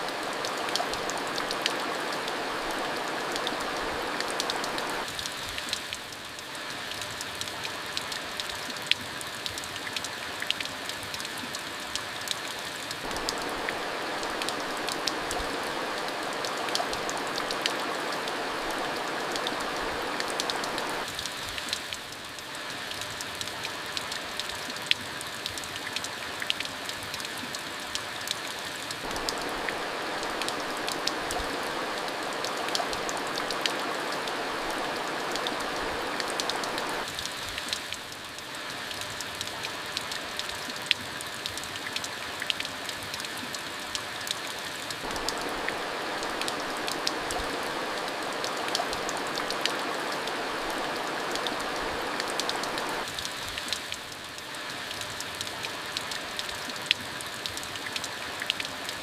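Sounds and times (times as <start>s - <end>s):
rain falling: 0.0s - 59.0s
raindrops ticking on a surface: 0.0s - 59.0s.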